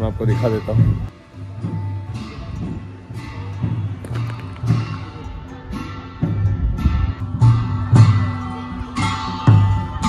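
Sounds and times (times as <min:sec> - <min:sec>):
low bass line: 0:00.0 - 0:10.0
plucked notes: 0:00.0 - 0:10.0.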